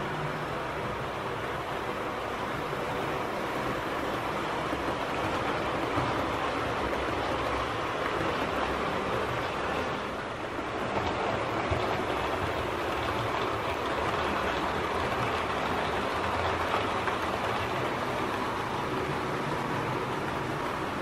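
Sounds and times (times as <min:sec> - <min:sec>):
model train wheels rolling on rails: 0:00.0 - 0:21.0.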